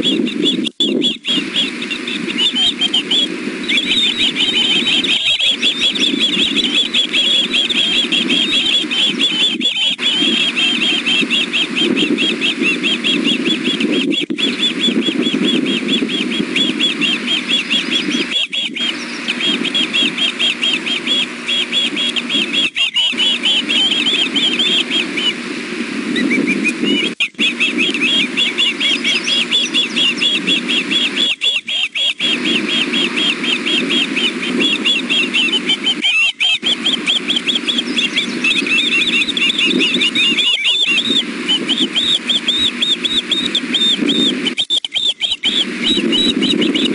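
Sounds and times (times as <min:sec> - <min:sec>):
young birds shrill chirping: 0:00.0 - 0:25.4, 0:26.1 - 0:46.9.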